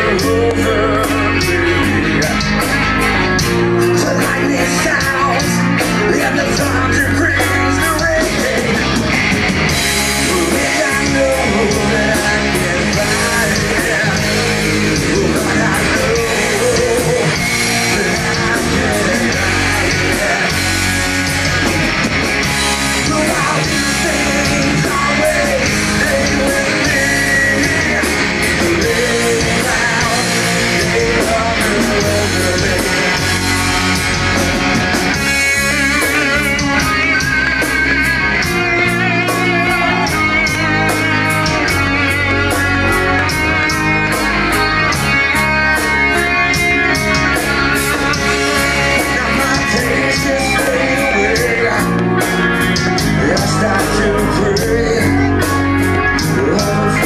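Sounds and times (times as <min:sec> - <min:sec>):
bass guitar: 0:00.0 - 0:57.0
distorted electric guitars: 0:00.0 - 0:57.0
drum kit with cymbals: 0:00.0 - 0:57.0.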